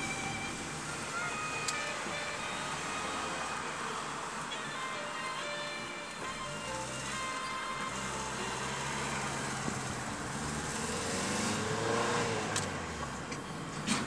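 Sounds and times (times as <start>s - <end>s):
car engine hum: 0.0s - 14.0s
tyre and road noise: 0.0s - 14.0s.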